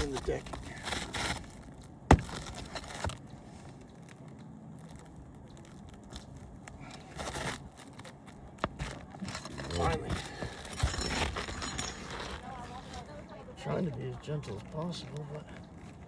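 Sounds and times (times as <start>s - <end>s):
shingle scraping and crinkling: 0.0s - 16.0s.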